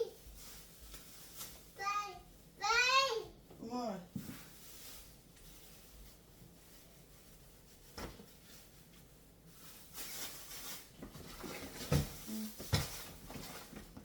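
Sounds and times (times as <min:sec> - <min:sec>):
groceries rustling: 0:00.0 - 0:14.0.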